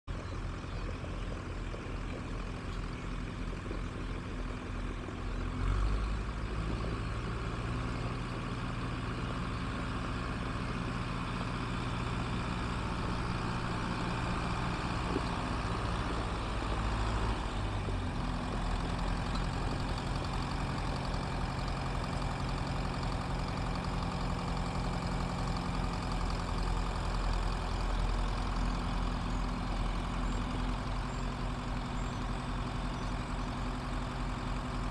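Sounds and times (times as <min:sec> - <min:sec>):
diesel tractor engine running: 0:00.0 - 0:34.9.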